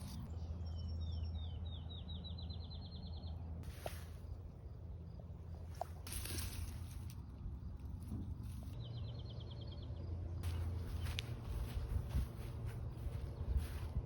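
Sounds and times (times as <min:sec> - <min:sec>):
low outdoor hum: 0:00.0 - 0:14.0.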